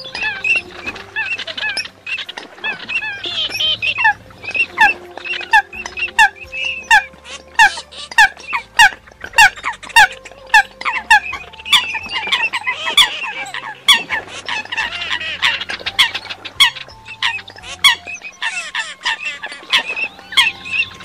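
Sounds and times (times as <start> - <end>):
bird chattering calls: 0.0 - 21.0
bird squeaky calls: 0.0 - 21.0.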